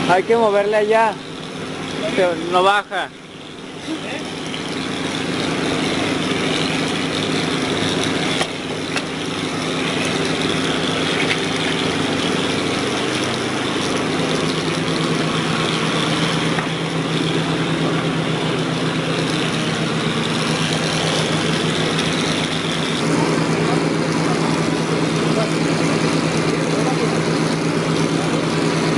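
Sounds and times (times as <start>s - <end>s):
construction machine engine running: 0.0s - 28.9s.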